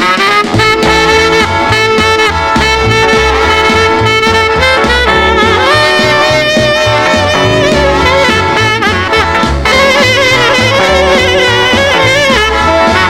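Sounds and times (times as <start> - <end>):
bass and drums: 0.0 - 13.0
horns playing lead line: 0.0 - 13.0.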